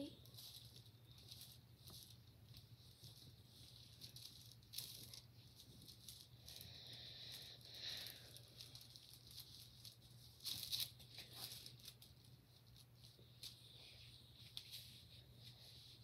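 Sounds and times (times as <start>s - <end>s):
faint rustling: 0.0s - 16.0s.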